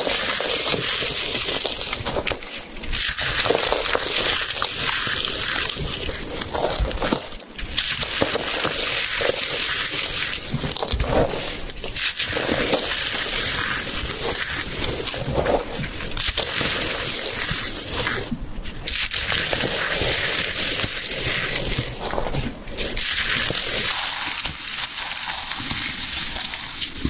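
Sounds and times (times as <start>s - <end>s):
crunching and crackling: 0.0s - 27.0s.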